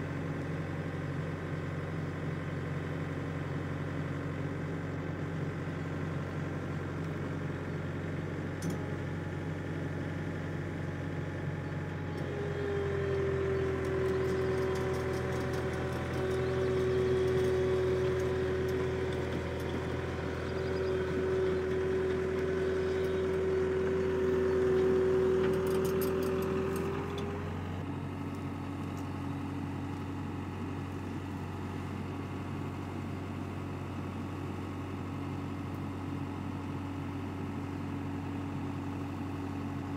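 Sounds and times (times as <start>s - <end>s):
dumper engine running: 0.0s - 39.9s.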